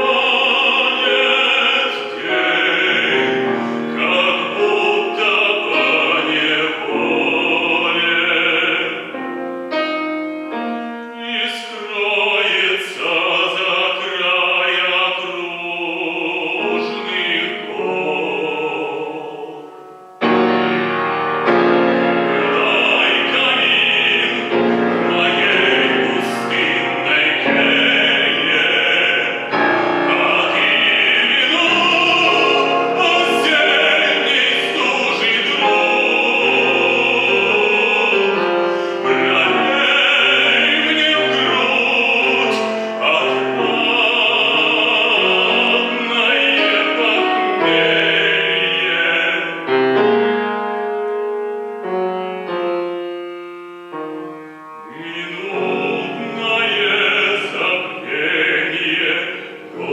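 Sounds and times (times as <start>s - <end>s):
operatic singer: 0.0s - 20.4s, 21.4s - 50.8s, 54.8s - 59.9s
piano accompaniment: 0.0s - 59.9s.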